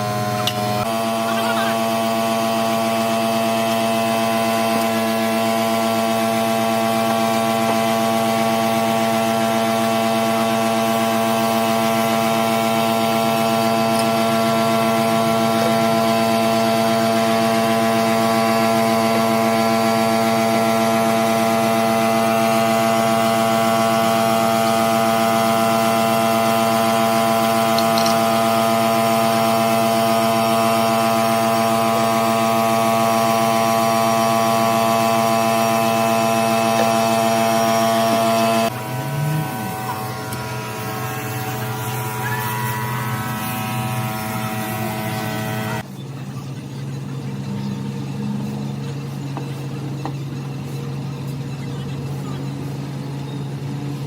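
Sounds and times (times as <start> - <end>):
motor humming steadily: 0.0 - 54.0.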